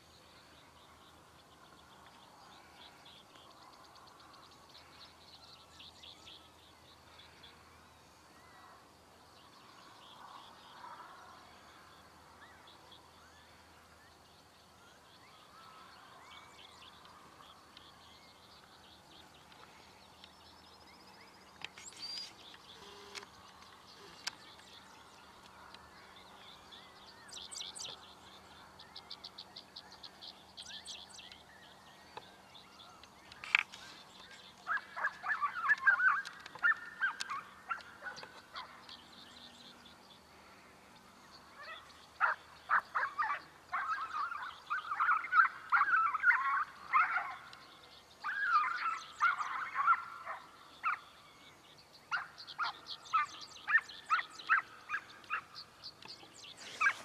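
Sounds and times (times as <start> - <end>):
songbirds trilling: 0.0 - 57.0.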